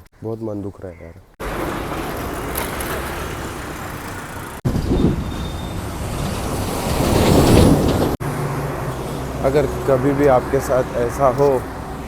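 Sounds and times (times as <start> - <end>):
heavy vehicle passing: 1.4 - 12.0.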